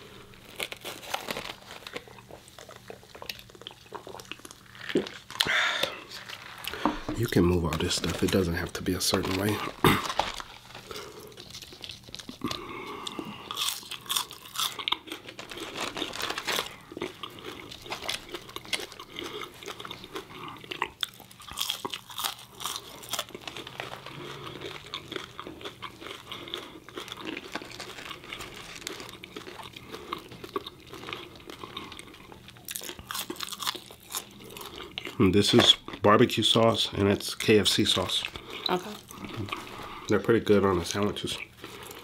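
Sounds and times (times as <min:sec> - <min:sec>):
crunchy chewing: 0:00.1 - 0:36.0.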